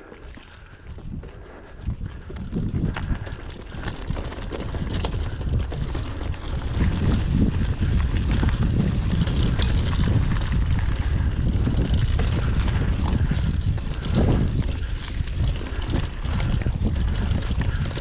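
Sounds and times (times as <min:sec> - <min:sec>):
mountain bike ride noise: 0:00.0 - 0:18.0
wind buffeting microphone: 0:00.0 - 0:18.0.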